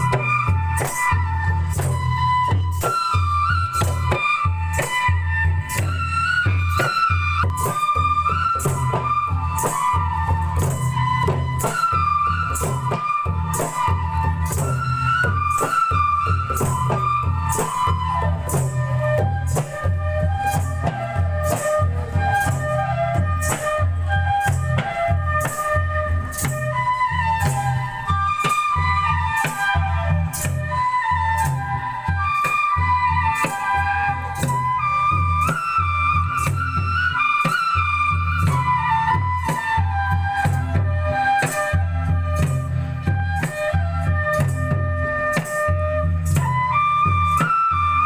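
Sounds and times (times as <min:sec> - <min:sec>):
bamboo flute melody: 0:00.0 - 0:48.0
jingling percussion: 0:00.0 - 0:48.0.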